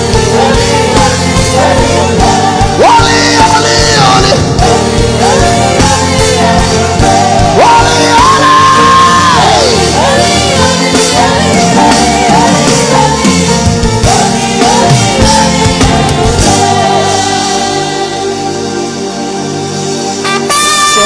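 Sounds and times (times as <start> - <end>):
voices singing and shouting: 0.0 - 19.1
live worship music: 0.0 - 21.0.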